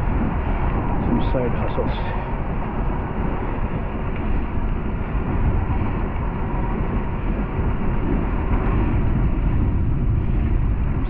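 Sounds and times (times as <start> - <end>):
road noise: 0.0 - 11.0
wind rushing on microphone: 0.0 - 11.0.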